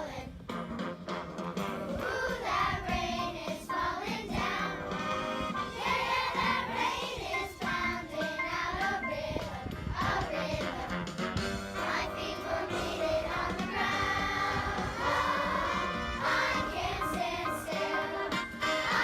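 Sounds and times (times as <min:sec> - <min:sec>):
children's chorus singing: 0:00.0 - 0:00.3, 0:01.8 - 0:05.0, 0:05.6 - 0:10.9, 0:11.8 - 0:19.0
instrumental accompaniment: 0:00.5 - 0:19.0.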